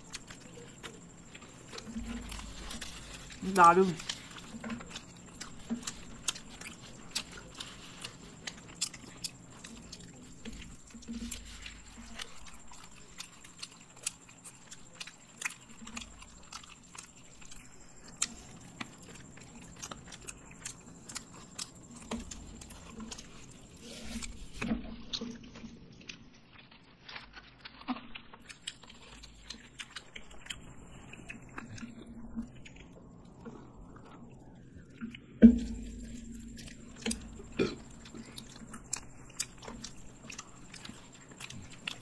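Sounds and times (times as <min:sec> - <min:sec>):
people chewing and biting: 0:00.0 - 0:42.0.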